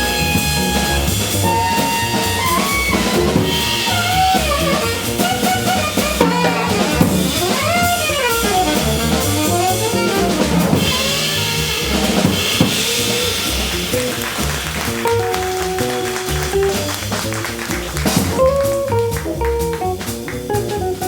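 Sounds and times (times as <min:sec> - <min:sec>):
bass line: 0:00.0 - 0:21.0
jazz combo playing: 0:00.0 - 0:21.0
snare and bass drum: 0:00.0 - 0:21.0.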